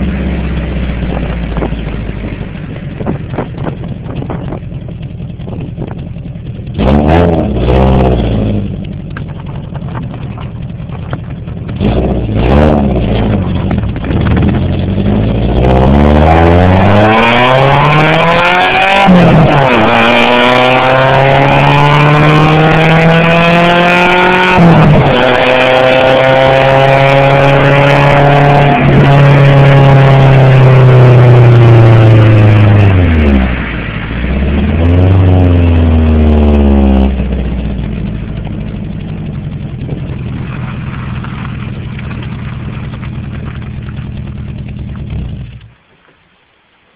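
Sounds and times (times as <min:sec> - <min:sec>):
engine revving: 0:00.0 - 0:45.8
car engine accelerating: 0:00.0 - 0:46.6.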